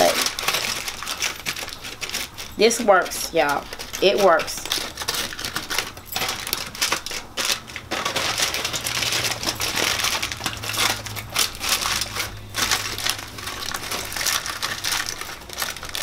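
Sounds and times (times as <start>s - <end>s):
aluminum foil crinkling: 0.0s - 16.0s.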